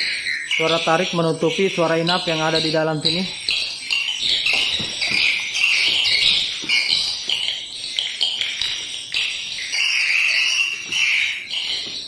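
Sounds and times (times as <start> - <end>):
swiftlet calls from speakers: 0.0 - 12.0.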